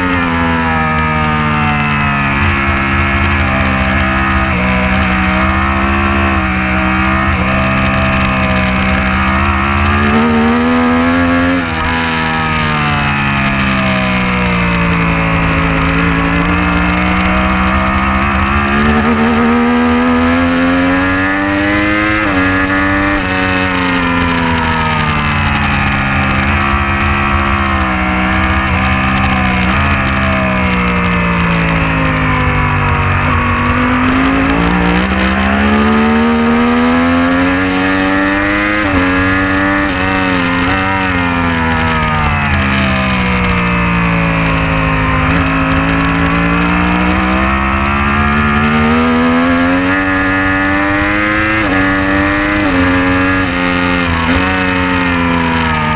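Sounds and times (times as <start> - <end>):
racing motorcycle engine revving: 0.0 - 55.9.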